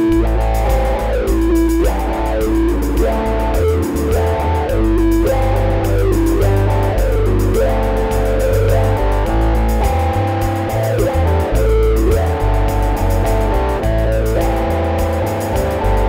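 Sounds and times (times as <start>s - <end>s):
electric bass line: 0.0s - 16.0s
electric guitar lead: 0.0s - 16.0s.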